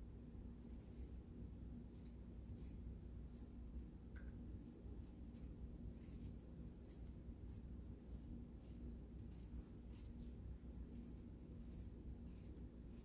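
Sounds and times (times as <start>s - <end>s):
low steady hum: 0.0s - 13.0s
knife scraping potato skin: 0.6s - 1.2s, 1.9s - 4.0s, 4.6s - 13.0s.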